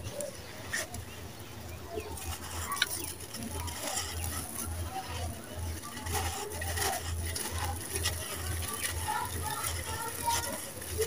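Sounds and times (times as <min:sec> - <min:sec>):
dry dirt crumbling and pouring: 0:00.0 - 0:11.0.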